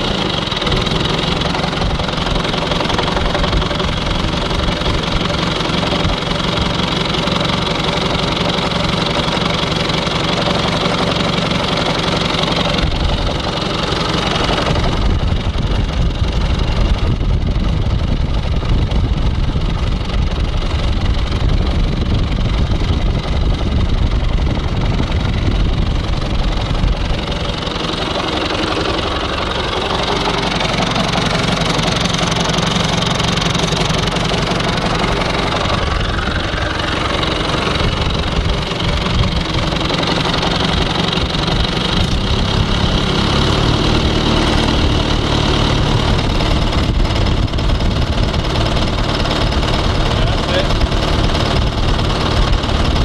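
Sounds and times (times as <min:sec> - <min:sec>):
rapid engine knocking: 0:00.0 - 0:53.0
tractor engine running: 0:00.0 - 0:53.0.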